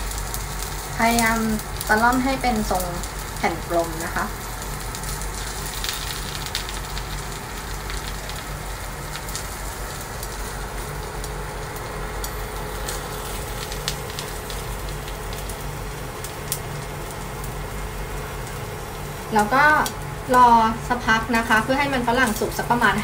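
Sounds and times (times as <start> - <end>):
potatoes sizzling in a pan: 0.0 - 23.0.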